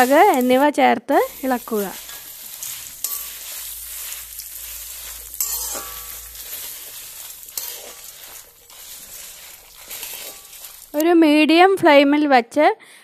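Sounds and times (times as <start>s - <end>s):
spatula scraping a pan: 0.0s - 11.0s
light sizzle in a pan: 0.0s - 11.2s.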